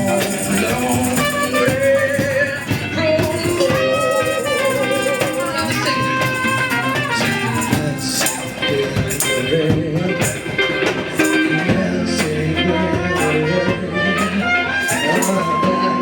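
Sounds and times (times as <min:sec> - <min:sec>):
steady percussion beat: 0:00.0 - 0:15.9
guitar playing: 0:00.0 - 0:16.0
live band playing: 0:00.0 - 0:16.0.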